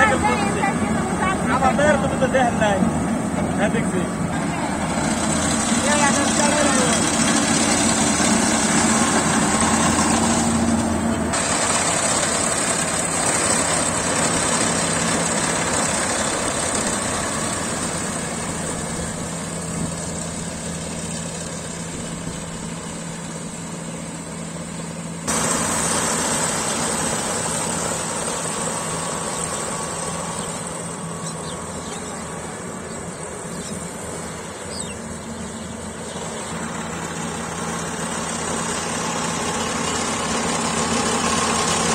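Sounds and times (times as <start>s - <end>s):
harvesting machine engine running: 0.0s - 41.9s.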